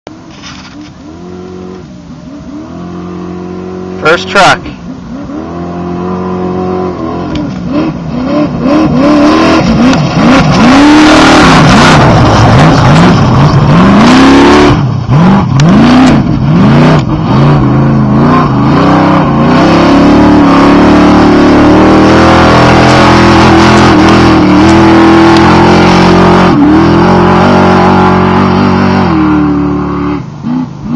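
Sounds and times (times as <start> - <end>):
race truck engine revving: 0.6 - 30.9.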